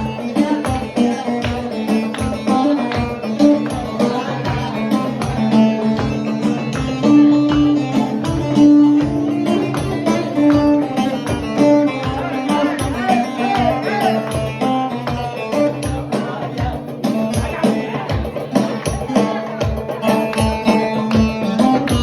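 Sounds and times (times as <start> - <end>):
band playing party music: 0.0 - 22.0
steady drum beat: 0.0 - 22.0.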